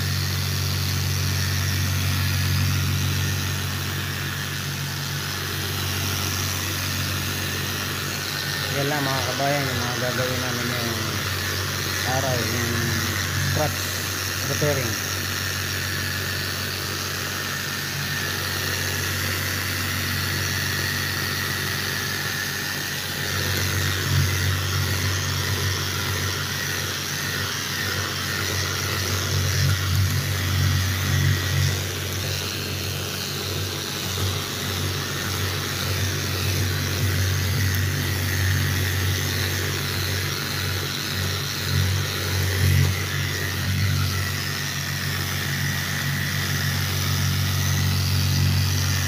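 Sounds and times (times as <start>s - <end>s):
sander grinding wet countertop: 0.0s - 49.0s.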